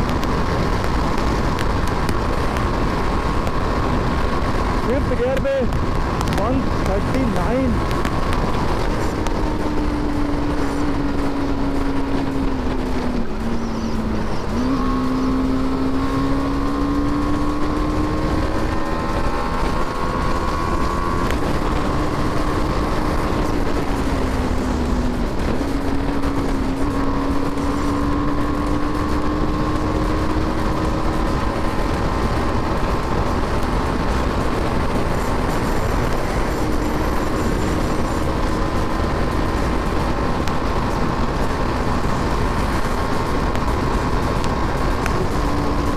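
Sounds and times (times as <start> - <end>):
motorcycle engine running hard: 0.0 - 45.9
steady rushing noise: 0.0 - 45.9.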